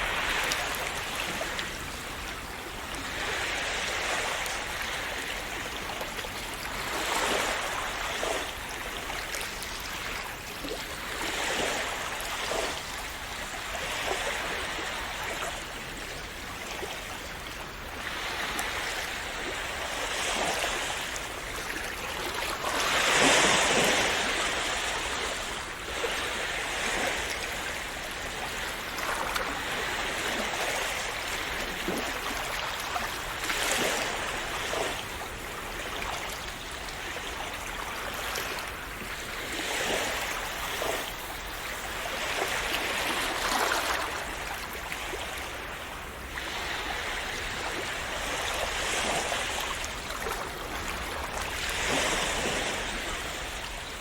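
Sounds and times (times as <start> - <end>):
sea waves splashing: 0.0 - 54.0.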